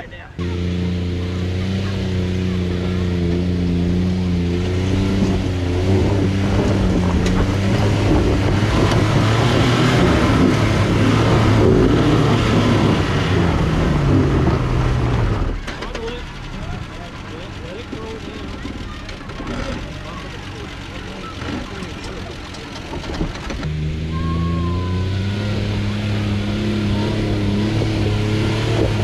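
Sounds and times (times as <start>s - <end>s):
car engine revving under load: 0.0s - 29.0s
tyres spinning on loose dirt: 0.5s - 29.0s.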